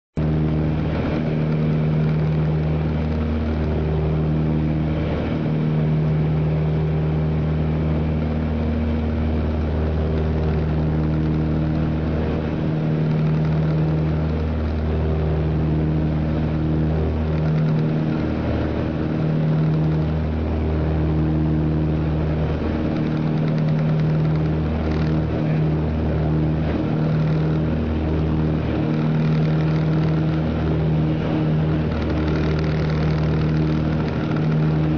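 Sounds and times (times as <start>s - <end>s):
aircraft engines droning: 0.2s - 34.9s.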